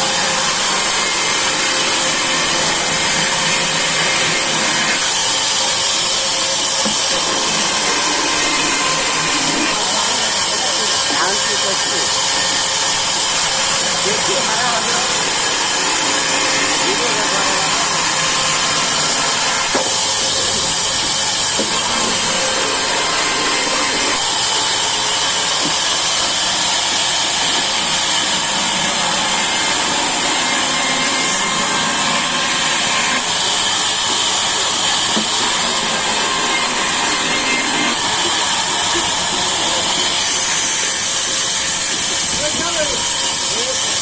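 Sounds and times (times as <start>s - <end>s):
saw cutting through wood: 0.0s - 44.0s.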